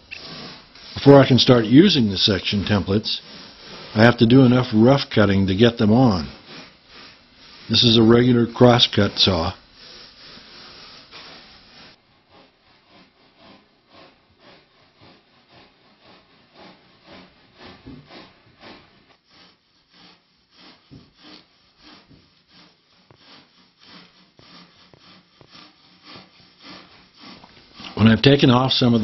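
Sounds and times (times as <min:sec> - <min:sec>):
hand saw rasping through foam: 0:00.0 - 0:29.0.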